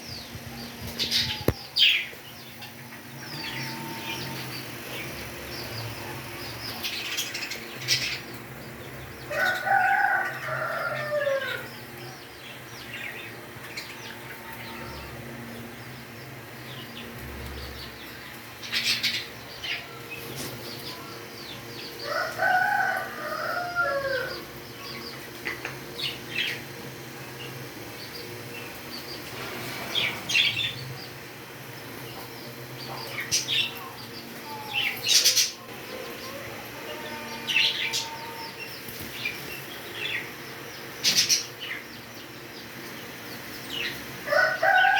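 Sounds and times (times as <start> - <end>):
long crowing bird calls: 0.0 - 44.9.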